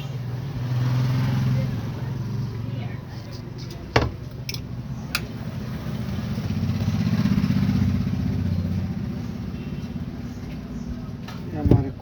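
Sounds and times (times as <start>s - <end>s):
motorcycle passing by: 0.0s - 3.2s, 4.7s - 11.2s.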